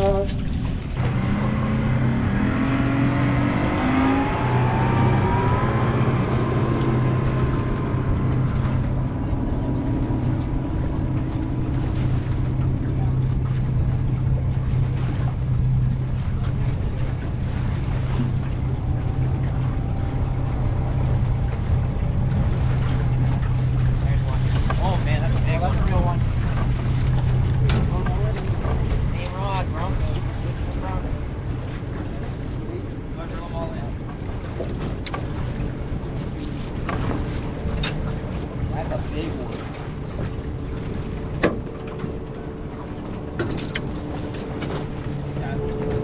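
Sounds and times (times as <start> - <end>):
motorboat engine whine: 0.0 - 46.0.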